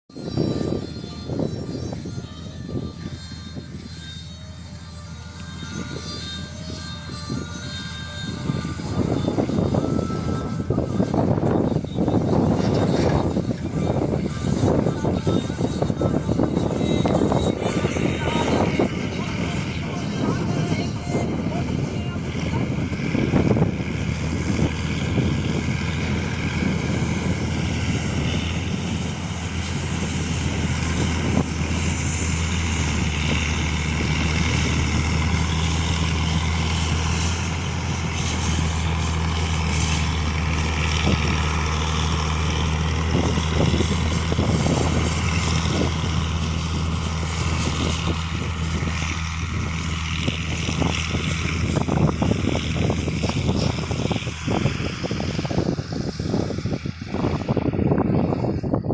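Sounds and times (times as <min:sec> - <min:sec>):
combine harvester engine drone: 0:00.1 - 0:58.9.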